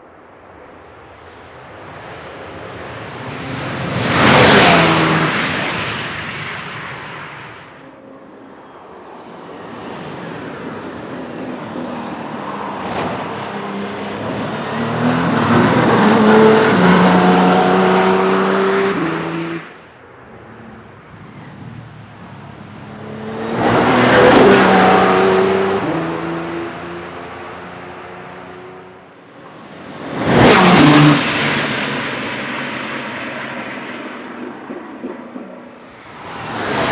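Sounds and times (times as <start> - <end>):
race car passing: 1.8 - 8.0, 9.4 - 36.9.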